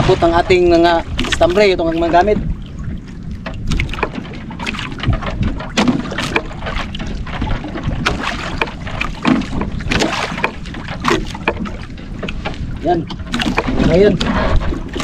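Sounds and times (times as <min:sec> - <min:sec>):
water slapping against boat hull: 0:00.0 - 0:15.0
wind rumbling on microphone: 0:00.0 - 0:15.0.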